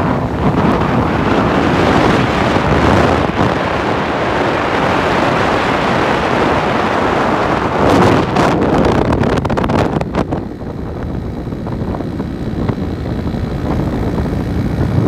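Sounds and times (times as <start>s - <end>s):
road noise: 0.0s - 15.0s
wind rushing on microphone: 0.0s - 15.0s.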